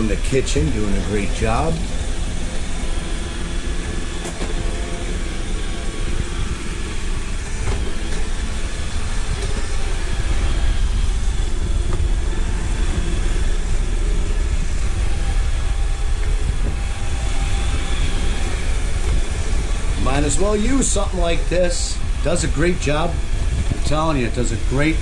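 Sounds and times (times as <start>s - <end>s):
robot vacuum humming: 0.0s - 25.0s.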